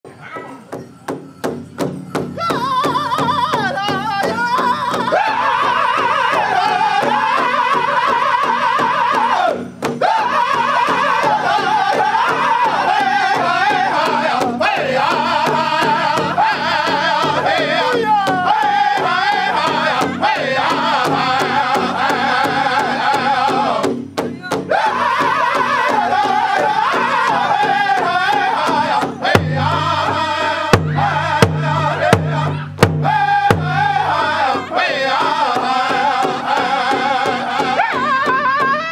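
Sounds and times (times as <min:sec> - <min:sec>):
large hide drum beat: 0:00.4 - 0:38.9
group singing in unison: 0:02.5 - 0:24.0, 0:24.6 - 0:38.9.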